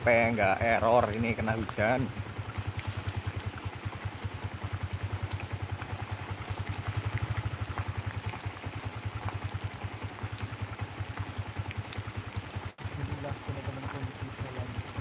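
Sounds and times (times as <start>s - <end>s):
light ticks of rain: 0.0s - 15.0s
motorcycle engine running: 0.0s - 15.0s
rain hissing: 0.0s - 15.0s.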